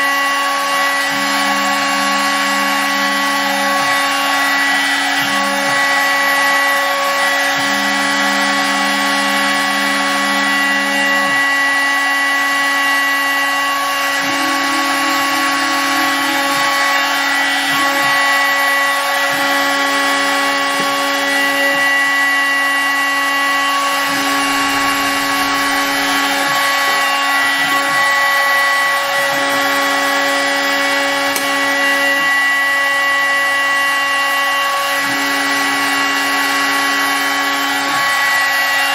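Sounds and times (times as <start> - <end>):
cnc spindle whine: 0.0 - 38.9
cutter cutting noise: 0.0 - 38.9
low motor tones: 0.0 - 38.9.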